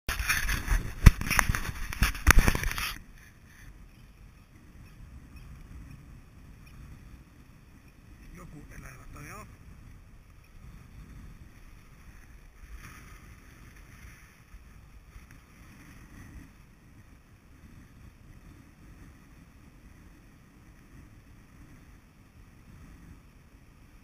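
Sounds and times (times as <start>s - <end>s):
faint rustles: 0.1s - 5.8s, 6.4s - 21.9s
wind rumbling on microphone: 0.1s - 24.0s.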